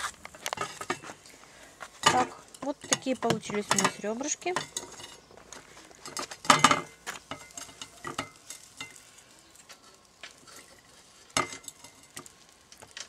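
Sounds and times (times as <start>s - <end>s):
faint hiss: 0.0s - 13.0s
fork scraping grill basket: 1.9s - 12.4s.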